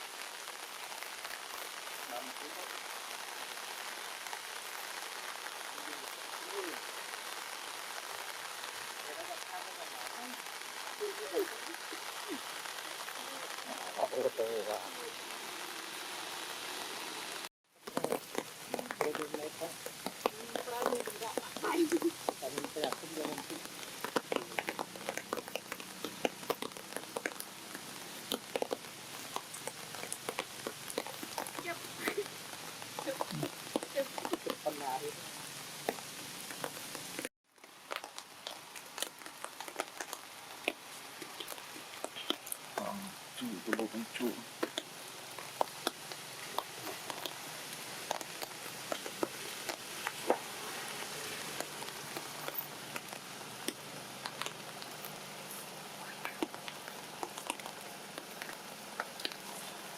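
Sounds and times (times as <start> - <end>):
rain falling: 0.0 - 59.9
raindrops pattering on surfaces: 0.0 - 59.9.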